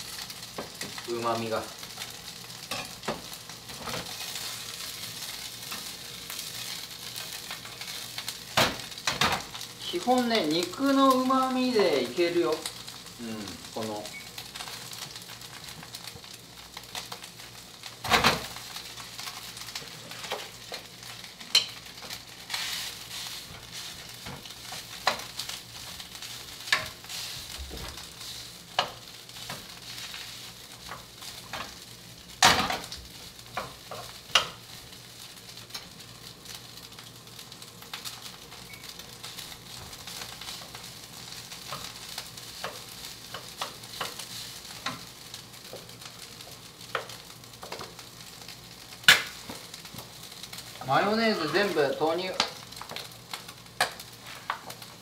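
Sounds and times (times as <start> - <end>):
chicken sizzling in a frying pan: 0.0 - 55.0.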